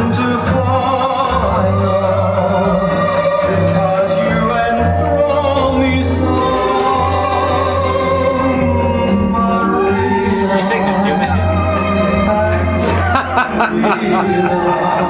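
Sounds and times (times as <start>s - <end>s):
orchestral backing: 0.0s - 15.0s
person singing long notes: 0.0s - 15.0s.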